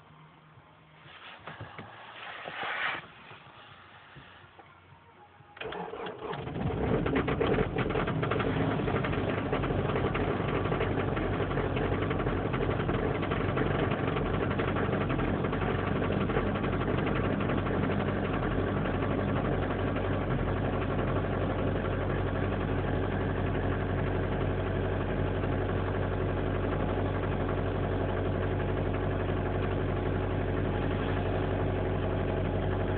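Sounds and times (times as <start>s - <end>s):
engine starting and running: 1.2s - 32.9s.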